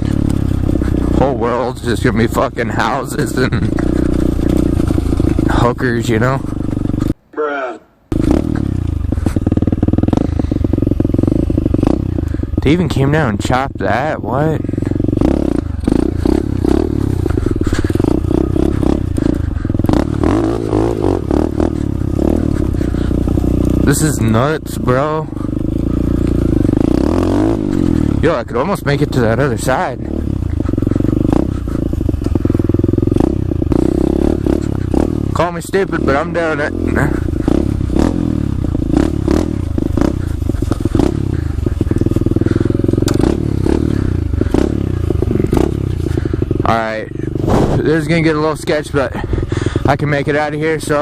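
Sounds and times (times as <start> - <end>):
bike rattling over rough ground: 0.0 - 7.2, 8.1 - 51.0
motorcycle engine running: 0.0 - 7.2, 8.1 - 51.0.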